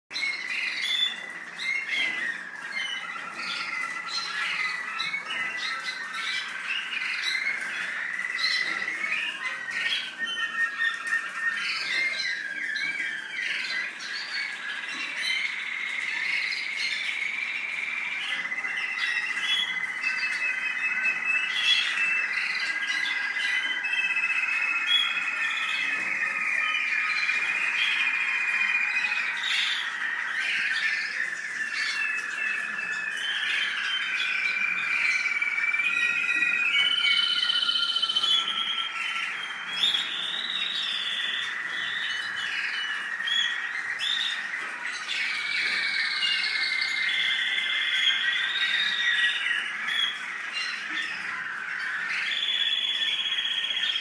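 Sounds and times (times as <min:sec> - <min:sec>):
canary singing: 0:00.1 - 0:54.0.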